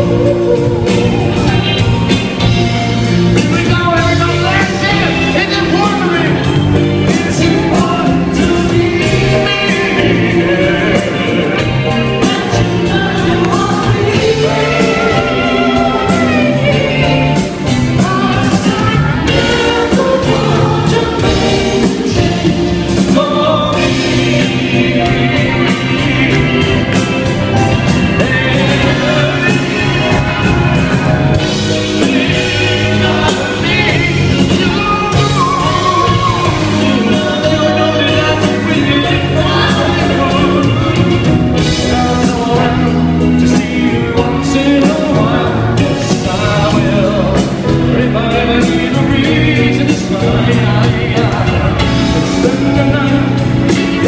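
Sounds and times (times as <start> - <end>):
live soft-rock band: 0.0 - 54.0
man singing lead: 0.0 - 54.0
voices singing together: 0.0 - 54.0.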